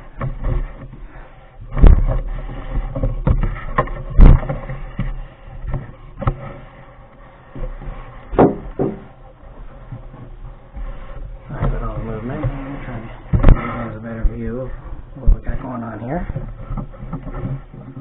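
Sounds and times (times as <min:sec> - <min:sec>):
thumps on microphone: 0:00.0 - 0:06.6, 0:07.8 - 0:09.2, 0:09.9 - 0:18.0.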